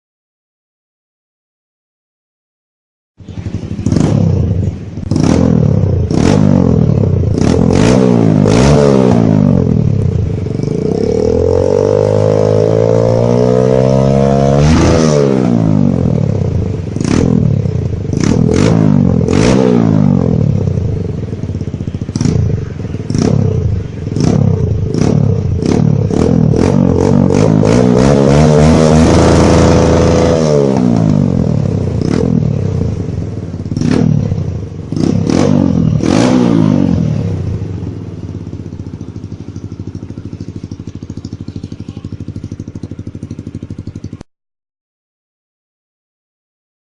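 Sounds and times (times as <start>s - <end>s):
motorcycle engine revving: 3.2s - 44.3s.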